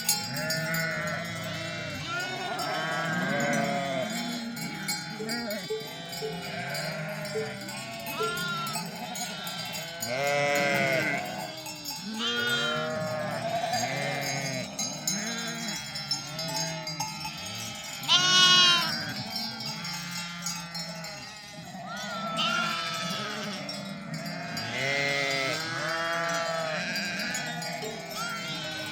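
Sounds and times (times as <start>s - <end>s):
sheep bleating: 0.1s - 28.9s.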